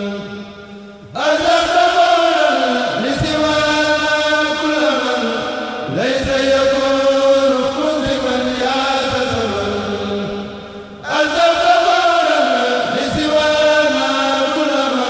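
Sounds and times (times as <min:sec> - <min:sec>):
person chanting devotional poem: 0:00.0 - 0:15.0.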